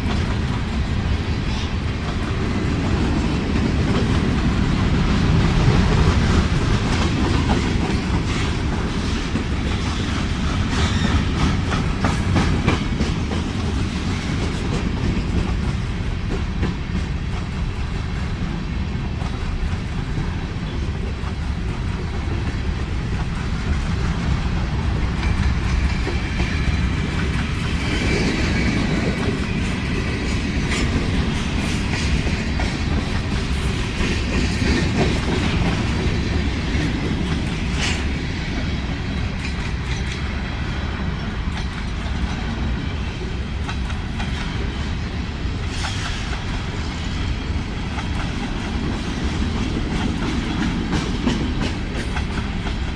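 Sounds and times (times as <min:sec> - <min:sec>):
freight train rumbling: 0:00.0 - 0:52.9
wheels clacking over rail joints: 0:00.0 - 0:52.9.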